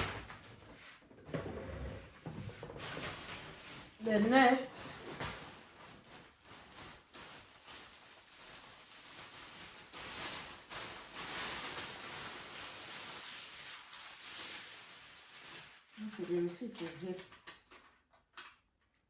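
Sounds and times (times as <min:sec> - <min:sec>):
papers rustling: 0:02.5 - 0:18.6.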